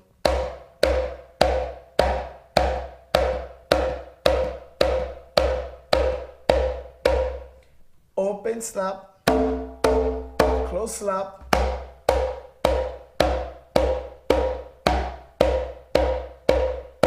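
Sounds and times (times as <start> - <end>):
hand drum slaps: 0.2 - 7.5, 9.3 - 17.0.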